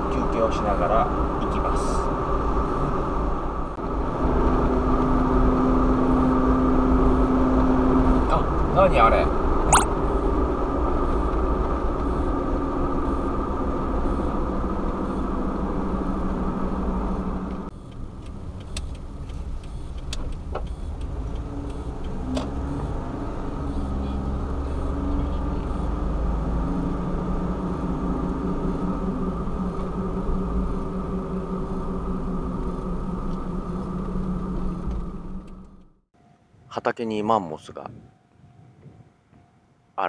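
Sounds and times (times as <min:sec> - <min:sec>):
van engine and road drone: 0:00.0 - 0:40.0.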